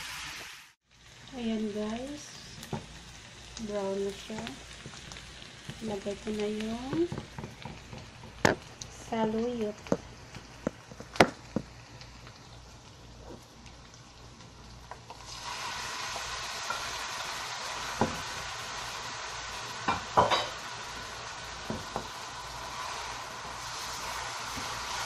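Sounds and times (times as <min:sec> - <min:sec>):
leaves sizzling in frying pan: 0:00.0 - 0:25.0.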